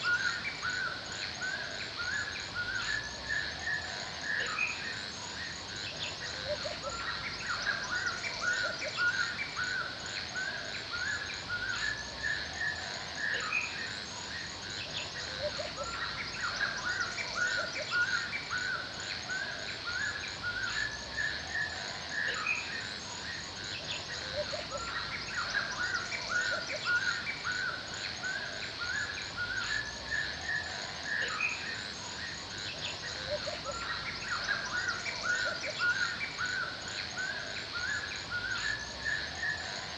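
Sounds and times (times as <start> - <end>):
forest birds chirping: 0.0 - 39.9
steady high hiss: 0.0 - 39.9.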